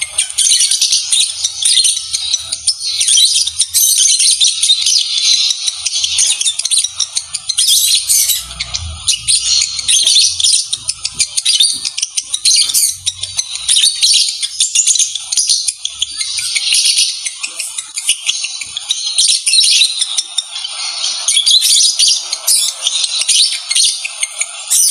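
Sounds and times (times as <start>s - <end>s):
lovebirds chattering: 0.0s - 24.9s.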